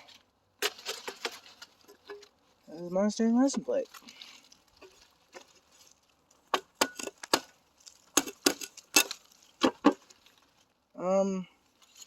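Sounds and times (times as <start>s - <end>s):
dry wood cracking: 0.0s - 11.0s.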